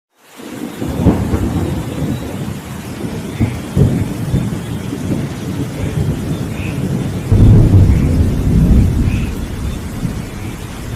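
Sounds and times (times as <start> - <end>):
heavy rain: 0.1 - 10.9
rolling thunder: 0.6 - 10.9.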